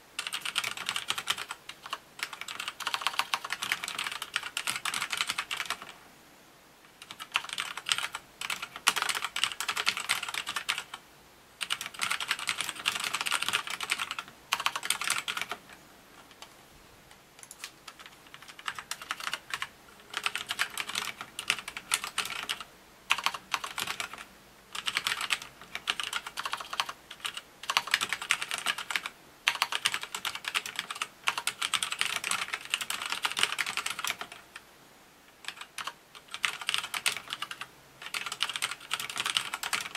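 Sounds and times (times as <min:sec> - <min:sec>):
mechanical keyboard typing: 0:00.2 - 0:06.0, 0:07.0 - 0:11.0, 0:11.6 - 0:15.6, 0:17.4 - 0:34.6, 0:35.4 - 0:39.9.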